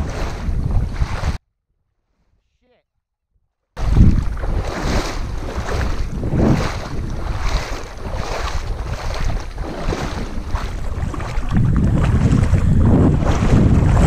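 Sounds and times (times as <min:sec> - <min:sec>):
wind buffeting microphone: 0:00.0 - 0:01.4, 0:03.8 - 0:14.0.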